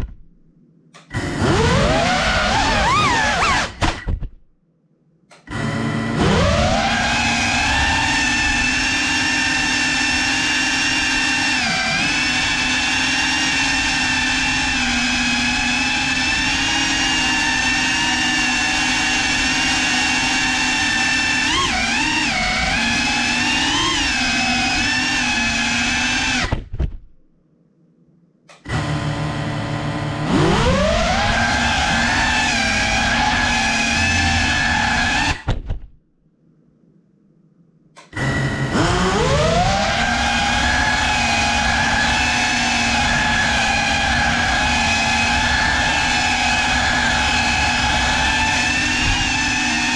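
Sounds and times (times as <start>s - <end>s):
drone motors whining: 1.0s - 4.2s, 5.4s - 26.6s, 28.5s - 35.6s, 38.0s - 49.9s.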